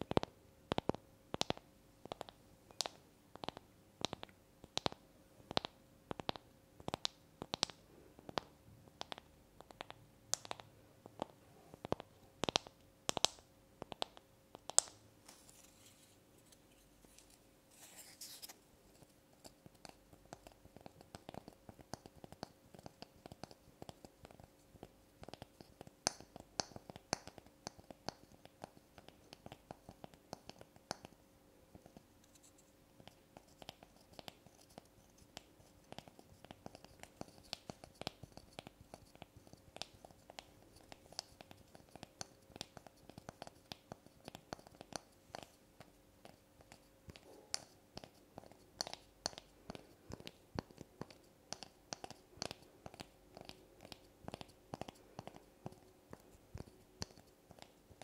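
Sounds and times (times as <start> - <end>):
scratchy hiss: 0.0 - 58.0.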